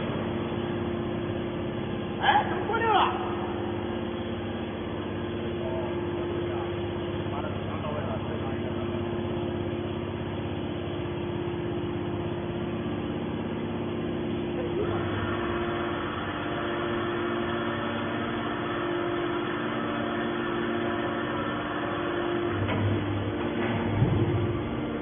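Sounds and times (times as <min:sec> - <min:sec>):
baler pump motor humming: 0:00.0 - 0:25.0.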